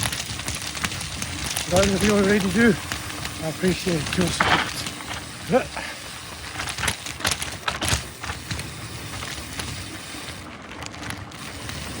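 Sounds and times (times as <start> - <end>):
bike knocks and rattles: 0.0 - 12.0
bike tyre noise: 0.0 - 12.0.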